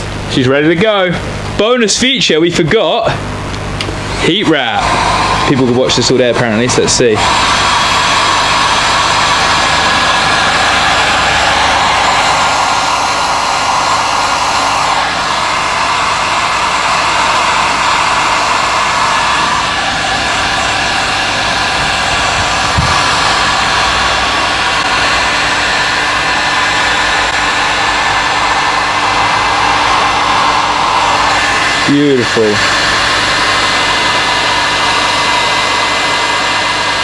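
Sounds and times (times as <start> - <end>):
heat gun blowing: 3.3 - 37.0.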